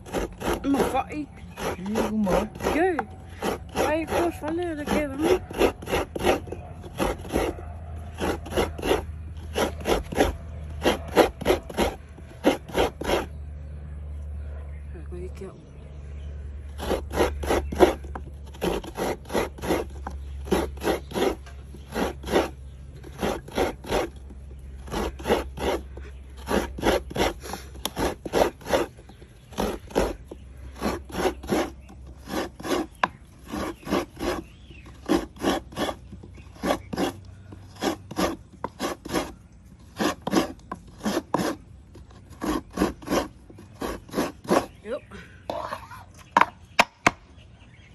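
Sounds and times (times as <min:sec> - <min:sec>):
coconut rasping on grating blade: 0:00.0 - 0:13.4, 0:16.6 - 0:46.5.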